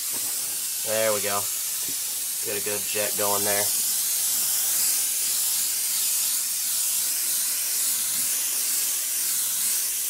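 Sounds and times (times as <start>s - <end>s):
airbrush spraying hiss: 0.0s - 10.0s.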